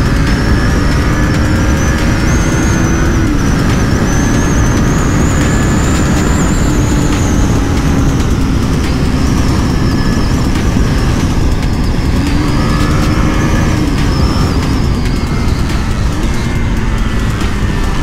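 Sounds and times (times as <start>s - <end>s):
motorcycle engine cruising: 0.0s - 18.0s
wind rush on microphone: 0.0s - 18.0s.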